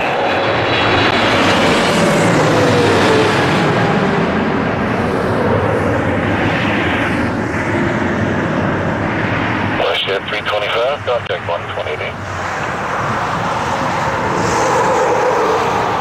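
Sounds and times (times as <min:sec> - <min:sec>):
jet airliner passing low overhead: 0:00.0 - 0:16.0
jet engine whine falling in pitch: 0:00.0 - 0:16.0.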